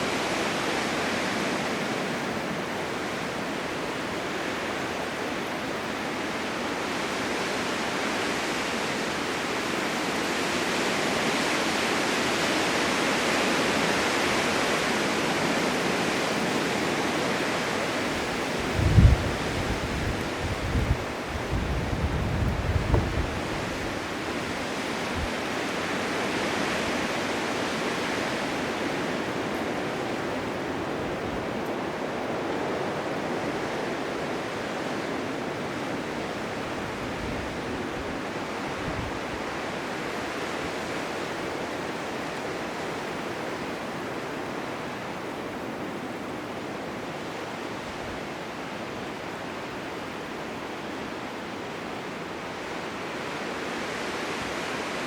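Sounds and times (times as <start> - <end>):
blizzard wind rushing: 0.0 - 55.0.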